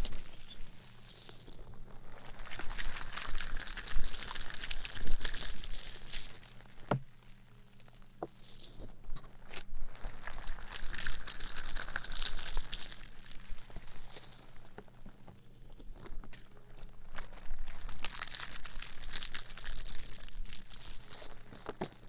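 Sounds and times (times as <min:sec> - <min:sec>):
close crinkling and crackling: 0:00.0 - 0:22.0.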